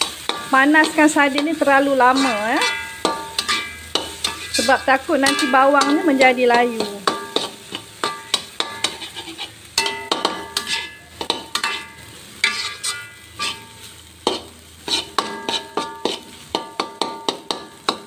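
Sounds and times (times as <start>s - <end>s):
metal spatula scraping wok: 0.0s - 18.0s.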